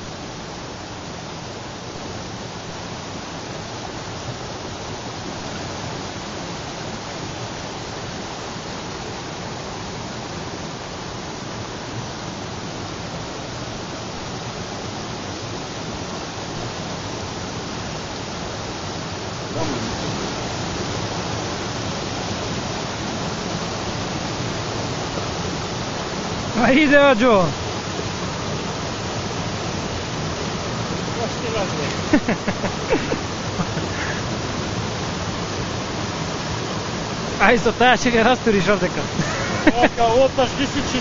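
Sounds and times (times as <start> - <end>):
stream rushing over boulders: 0.0 - 41.0.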